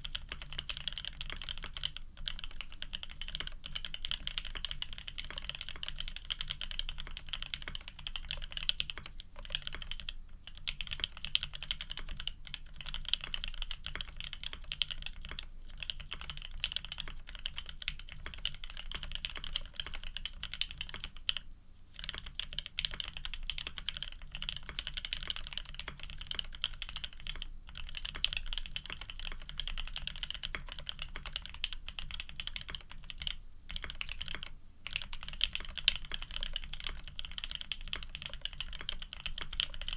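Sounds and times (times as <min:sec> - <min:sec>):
mechanical keyboard typing: 0:00.0 - 0:21.4, 0:22.0 - 0:39.9.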